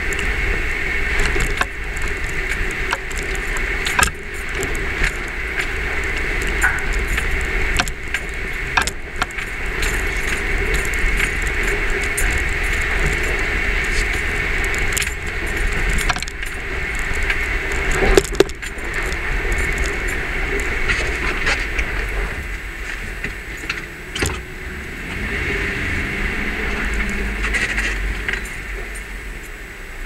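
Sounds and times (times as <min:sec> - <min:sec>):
vehicle rumbling over rocky ground: 0:00.0 - 0:30.0.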